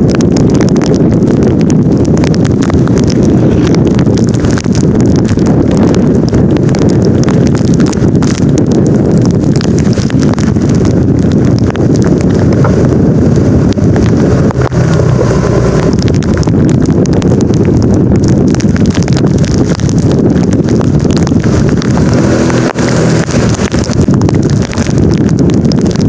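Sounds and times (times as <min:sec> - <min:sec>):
heavy rain: 0:00.0 - 0:26.0
raindrops tapping device: 0:00.0 - 0:26.0
wind buffeting microphone: 0:00.0 - 0:26.0.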